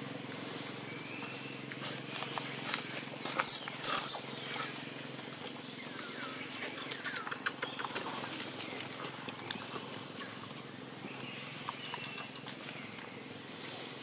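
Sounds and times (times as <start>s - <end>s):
dry leaves crackling and rustling: 0.3s - 6.4s, 7.9s - 14.0s.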